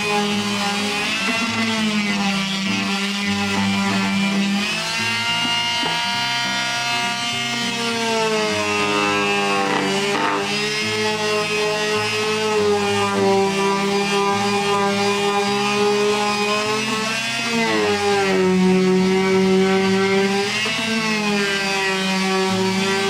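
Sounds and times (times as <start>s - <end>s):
electric sander on wood: 0.0s - 23.0s.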